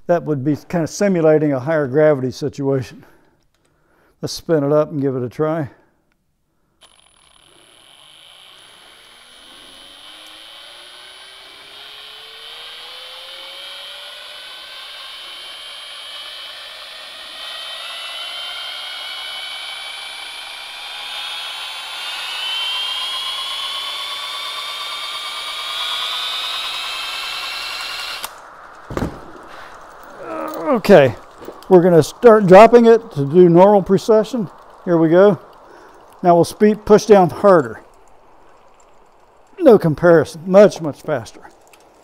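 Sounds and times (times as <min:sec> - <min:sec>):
drill spinning wheel whine: 0:06.8 - 0:42.0.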